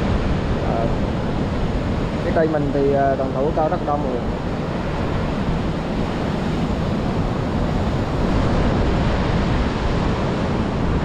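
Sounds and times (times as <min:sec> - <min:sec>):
surf washing onto a beach: 0:00.0 - 0:11.0
wind on microphone: 0:00.0 - 0:11.0.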